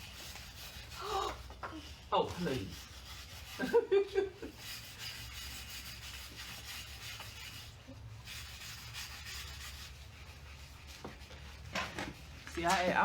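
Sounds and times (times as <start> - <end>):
scrubbing brake rotor rasping: 0.0 - 13.0.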